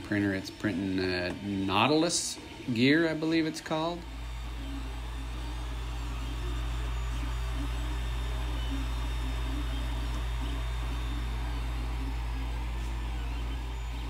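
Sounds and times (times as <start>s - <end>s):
fan hum and hiss: 0.0s - 14.0s
stepper motors whining: 0.0s - 14.0s.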